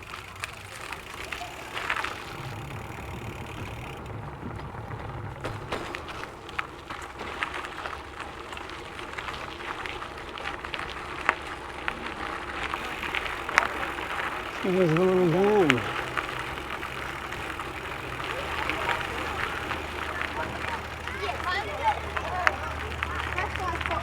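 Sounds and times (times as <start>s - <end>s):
bike tyres rolling on gravel: 0.0s - 24.0s.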